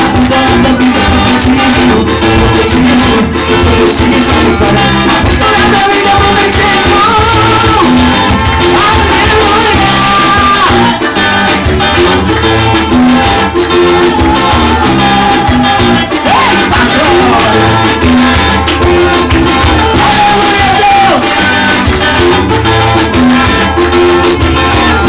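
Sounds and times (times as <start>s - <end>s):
upbeat gospel band music: 0.0s - 25.0s.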